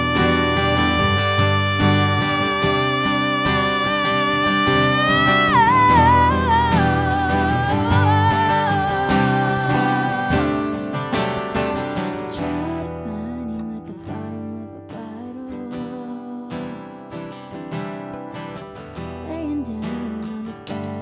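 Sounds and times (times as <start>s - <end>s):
woman singing: 0.0s - 17.3s, 19.0s - 21.0s
acoustic guitars strumming: 0.0s - 21.0s.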